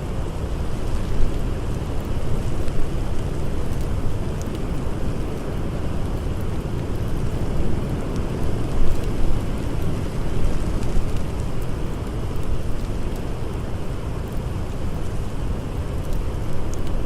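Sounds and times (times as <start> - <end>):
faint fire crackles: 0.0 - 17.0.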